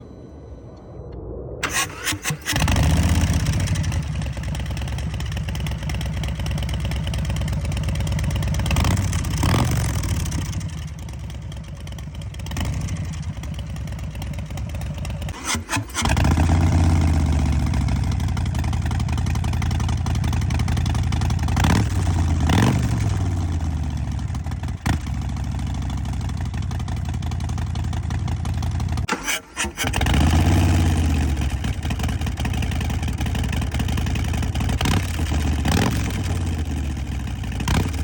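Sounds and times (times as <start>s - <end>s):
engine idling: 1.6s - 38.0s.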